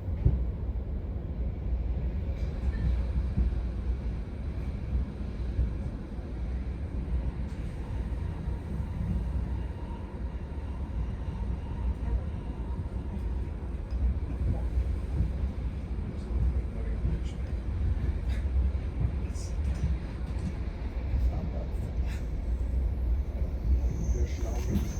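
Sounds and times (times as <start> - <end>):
train rumbling on track: 0.0 - 24.9.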